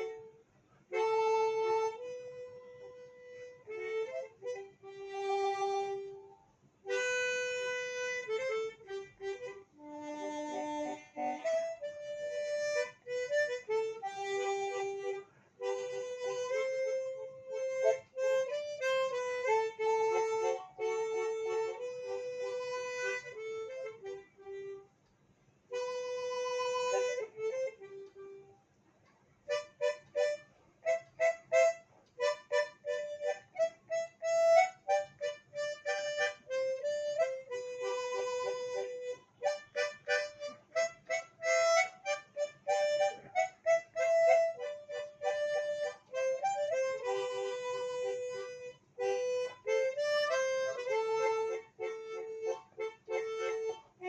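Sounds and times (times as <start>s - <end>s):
harmonica melody: 0.0s - 24.9s, 25.7s - 28.6s, 29.5s - 54.0s.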